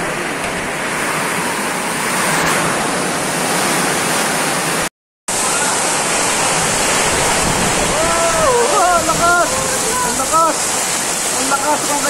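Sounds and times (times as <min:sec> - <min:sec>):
heavy rain and wind: 0:00.0 - 0:12.0.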